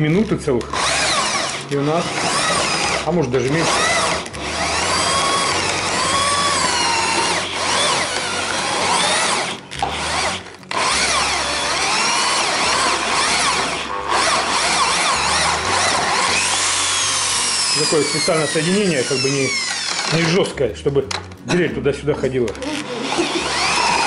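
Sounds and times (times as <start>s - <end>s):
electric drill motor whining: 0.0s - 20.4s, 22.5s - 24.0s
meat grinder grinding: 0.0s - 20.4s, 22.4s - 24.0s.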